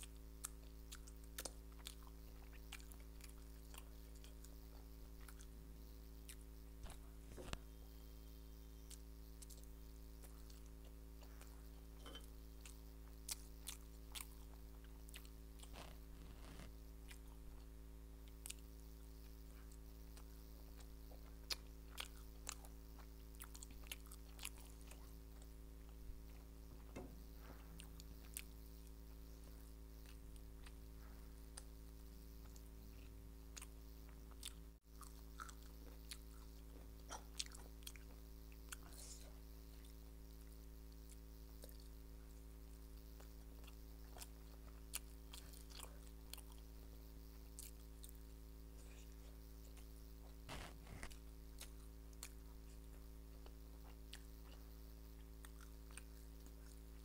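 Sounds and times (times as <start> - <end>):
chewing and biting food: 0.0 - 5.6, 12.2 - 17.4, 18.3 - 26.6, 27.5 - 31.8, 32.4 - 42.0, 42.7 - 48.2, 48.8 - 57.0
steady low hum: 0.0 - 57.0.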